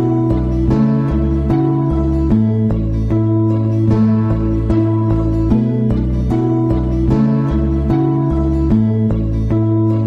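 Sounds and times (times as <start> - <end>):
plucked notes over held bass: 0.0 - 10.0.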